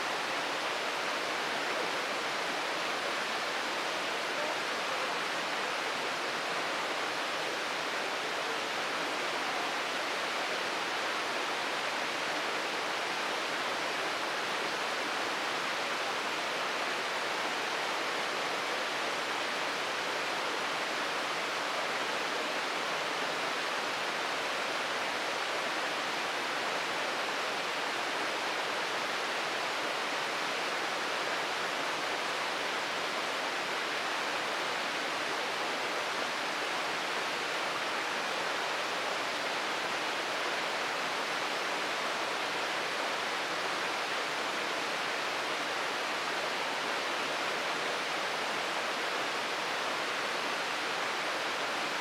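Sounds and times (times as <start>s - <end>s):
waterfall pouring and splashing: 0.0s - 52.0s.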